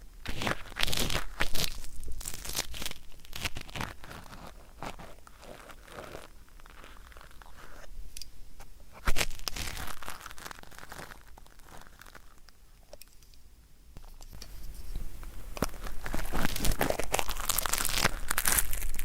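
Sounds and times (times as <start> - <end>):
ear pick scraping earwax: 0.3 - 13.4, 14.0 - 19.0.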